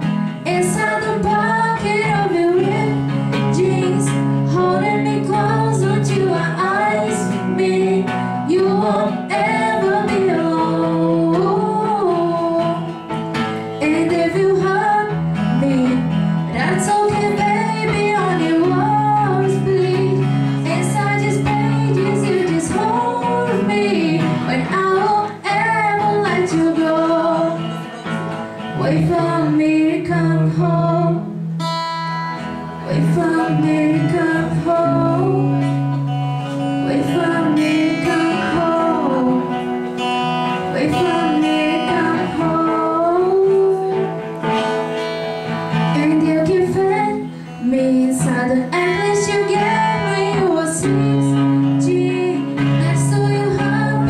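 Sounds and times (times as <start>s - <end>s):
acoustic guitar strumming: 0.0s - 54.0s
woman singing into a microphone: 0.0s - 54.0s.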